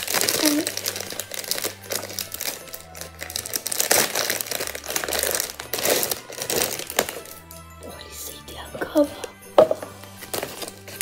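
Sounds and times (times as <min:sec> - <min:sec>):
plastic and tissue paper crinkling: 0:00.0 - 0:11.0.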